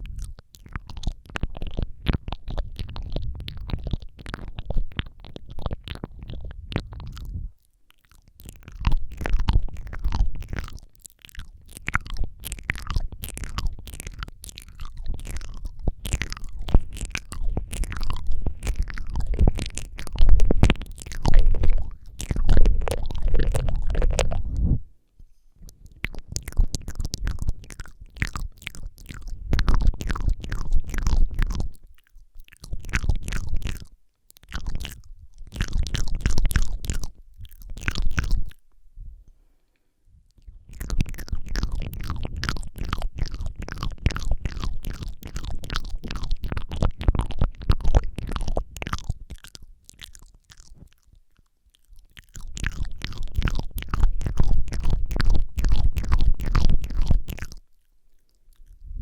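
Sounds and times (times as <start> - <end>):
wet mouth sounds: 0.0 - 38.8, 40.2 - 59.0.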